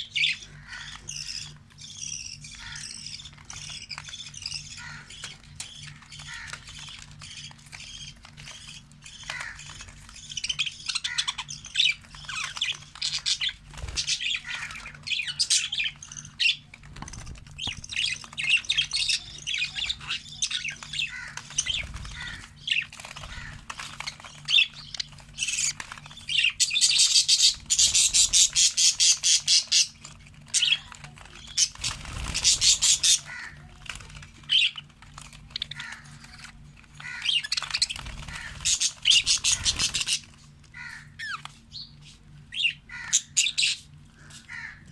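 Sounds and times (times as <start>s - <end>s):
budgerigars chattering: 0.0s - 33.8s, 35.5s - 44.9s
rapid pulsing squawks: 0.0s - 44.9s.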